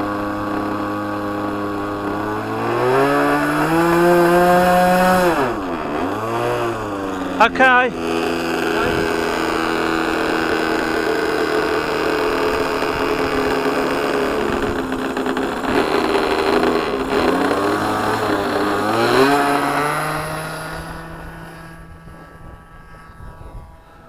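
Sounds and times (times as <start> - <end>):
model plane engine at high throttle: 0.0 - 24.0.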